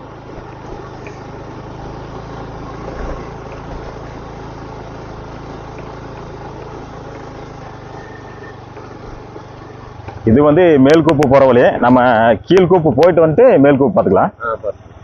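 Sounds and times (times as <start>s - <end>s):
motorcycle engine running: 0.0s - 15.0s
road noise hiss: 0.0s - 15.0s.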